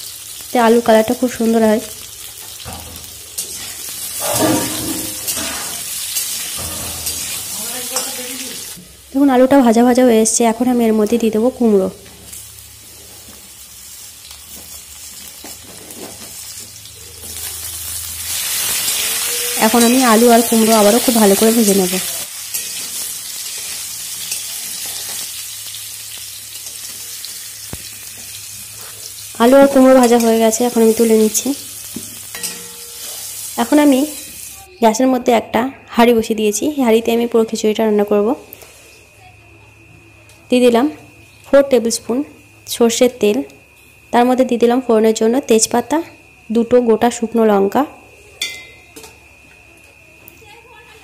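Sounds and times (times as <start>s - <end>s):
potatoes sizzling in oil: 0.0s - 35.4s, 36.0s - 39.4s, 40.3s - 51.0s.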